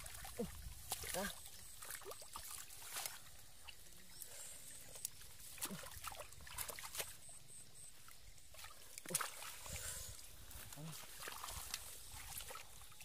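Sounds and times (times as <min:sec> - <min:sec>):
hands squelching in muddy water: 0:00.0 - 0:07.4, 0:08.0 - 0:13.0.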